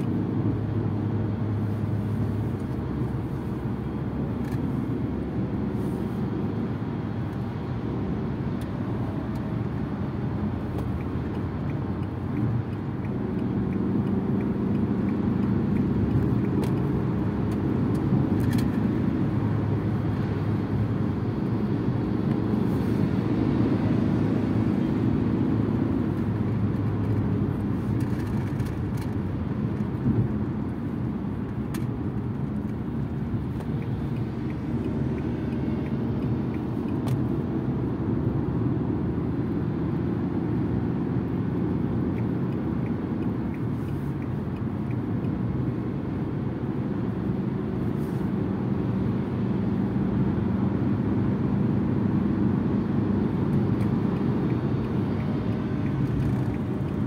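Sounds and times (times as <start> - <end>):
car road noise and engine hum: 0.0 - 57.0.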